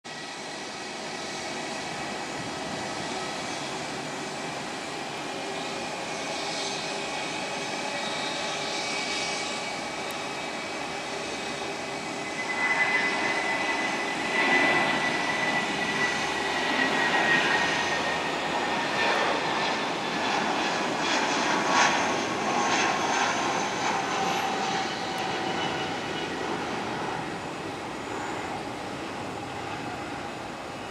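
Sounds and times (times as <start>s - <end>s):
jet airliner taking off: 0.1s - 30.9s
jet engine whine sliding down: 0.1s - 30.9s.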